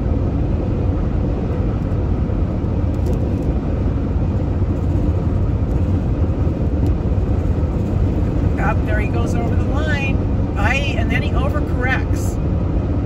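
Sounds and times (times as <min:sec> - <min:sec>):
road rumble and tyre noise: 0:00.0 - 0:13.0.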